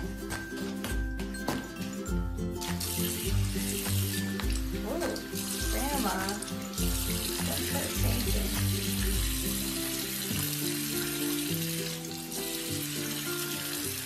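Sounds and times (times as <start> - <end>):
background music with bass line: 0.0 - 11.7
faucet running into sink: 2.6 - 14.0.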